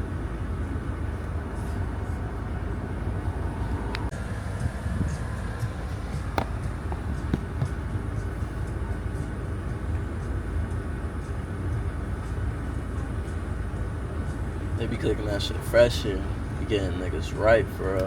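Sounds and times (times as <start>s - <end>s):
car engine rumble inside cabin: 0.0s - 18.0s.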